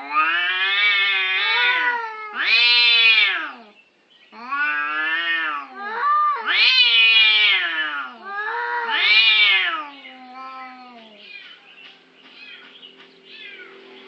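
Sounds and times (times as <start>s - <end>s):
cats yowling: 0.0s - 11.7s.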